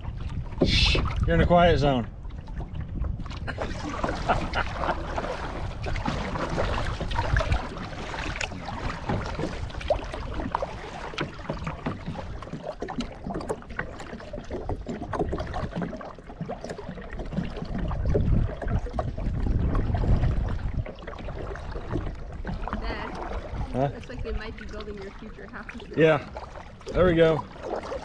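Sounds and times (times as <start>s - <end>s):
paddle strokes in water: 0.0s - 28.0s
splashes and drips: 0.0s - 28.0s
wind rumble on microphone: 0.0s - 28.0s.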